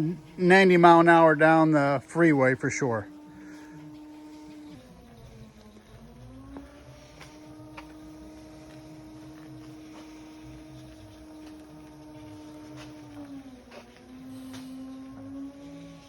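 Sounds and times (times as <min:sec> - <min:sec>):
small machine whining: 0:00.0 - 0:16.0.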